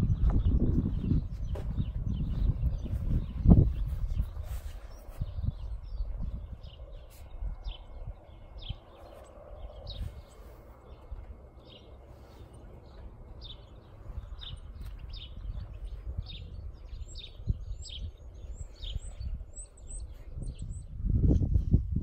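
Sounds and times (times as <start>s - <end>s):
small birds chirping: 0.0s - 21.8s
wind rumble on microphone: 0.0s - 22.0s.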